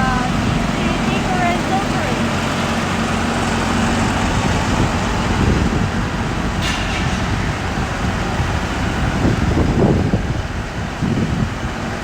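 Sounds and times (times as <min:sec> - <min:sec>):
pile driver diesel engine: 0:00.0 - 0:12.0.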